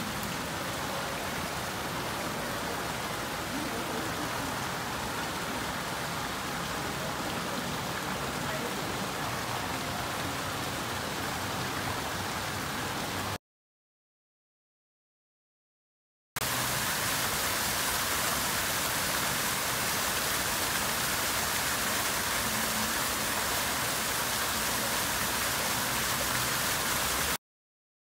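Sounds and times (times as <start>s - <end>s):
fountain water splashing: 0.0s - 13.4s, 16.4s - 27.4s.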